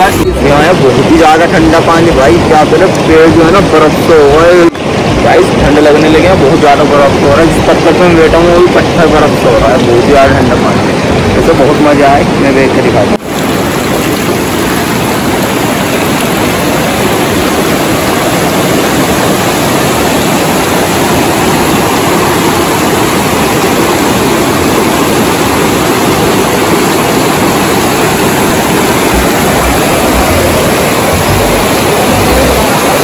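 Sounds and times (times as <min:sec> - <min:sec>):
river rushing over boulders: 0:00.0 - 0:33.0.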